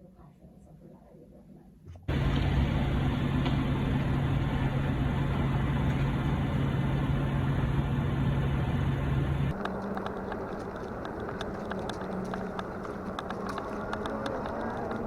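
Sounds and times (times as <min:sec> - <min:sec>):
constant low hum: 0:01.9 - 0:15.0.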